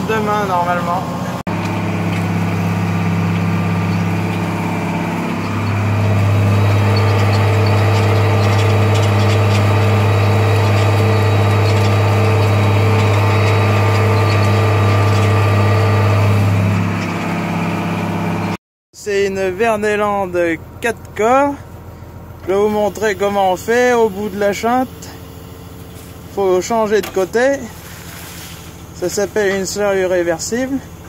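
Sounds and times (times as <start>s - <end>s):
tractor engine under load: 0.0s - 18.6s, 19.2s - 31.0s.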